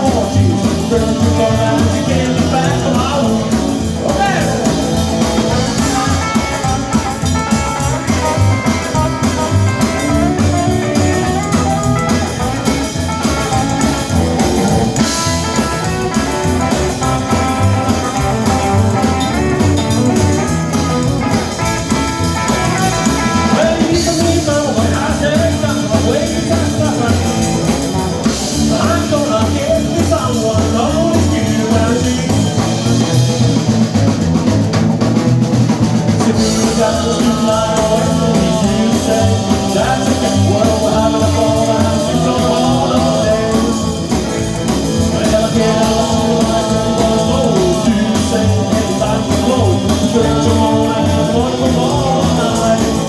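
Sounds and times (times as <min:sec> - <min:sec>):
drum kit beat: 0:00.0 - 0:53.0
electric guitar: 0:00.0 - 0:53.0
rock band playing: 0:00.0 - 0:53.0.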